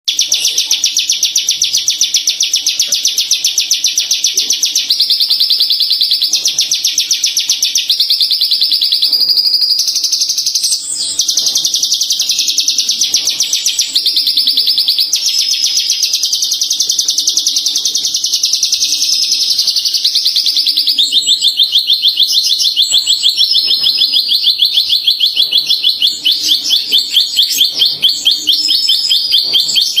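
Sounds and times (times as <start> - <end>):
bushlark twittering and trilling: 0.1 - 30.0.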